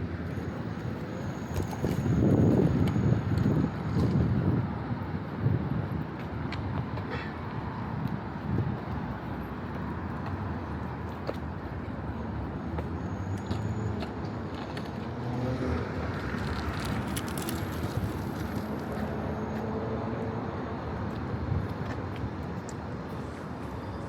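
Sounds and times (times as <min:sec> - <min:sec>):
cars passing in steady rumble: 0:00.0 - 0:24.0.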